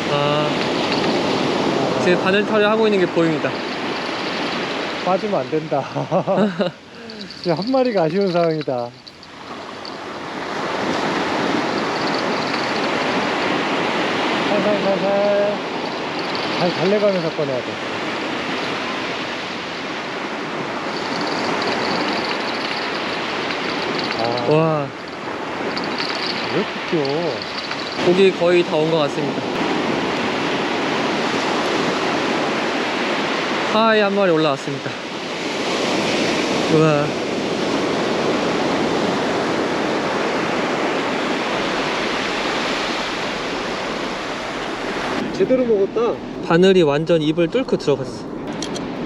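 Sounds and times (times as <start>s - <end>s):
ocean surf washing onto beach: 0.0s - 49.0s.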